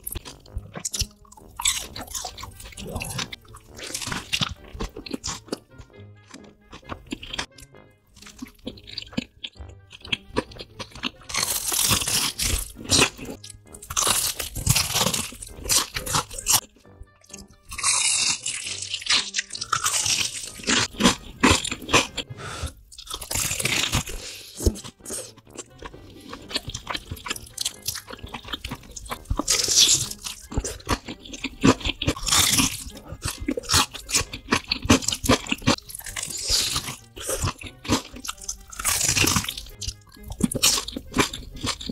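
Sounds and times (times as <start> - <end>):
crunching bites of fried chicken: 0.0 - 7.6, 8.2 - 41.9
chewing: 0.0 - 41.9
soft background music: 0.0 - 41.9.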